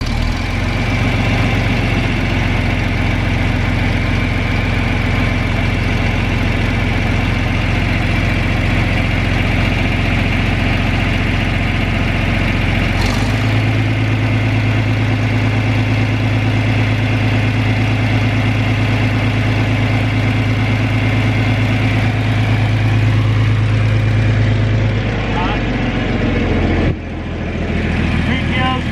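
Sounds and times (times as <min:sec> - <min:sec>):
tractor engine idling: 0:00.0 - 0:28.9.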